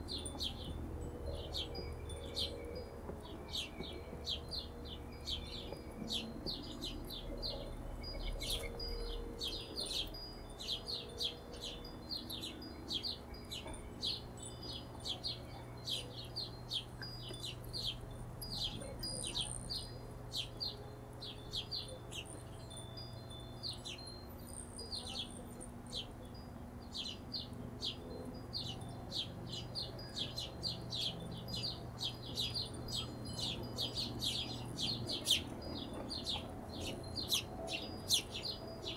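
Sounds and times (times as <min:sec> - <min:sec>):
hummingbirds chipping: 0:00.0 - 0:38.9.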